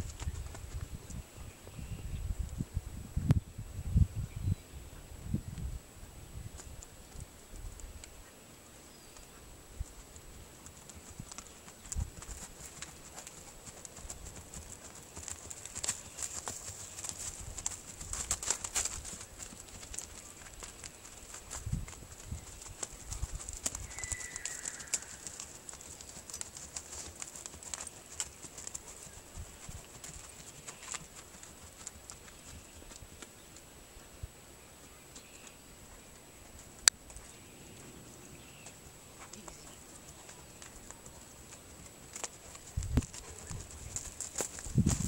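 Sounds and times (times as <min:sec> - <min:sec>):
horse hoofbeats on grass: 0:00.0 - 0:02.0, 0:08.9 - 0:33.7, 0:34.8 - 0:45.0.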